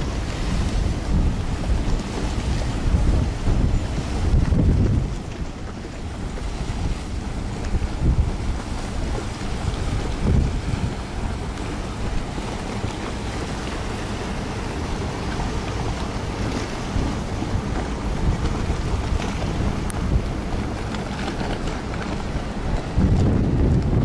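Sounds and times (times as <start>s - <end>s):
open-water harbour ambience: 0.0s - 24.0s
wind buffeting microphone: 0.0s - 24.0s.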